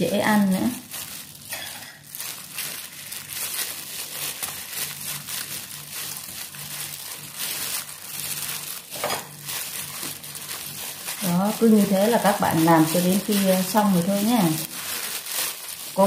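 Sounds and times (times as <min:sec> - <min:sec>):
plastic gloves crinkling: 0:00.0 - 0:16.0.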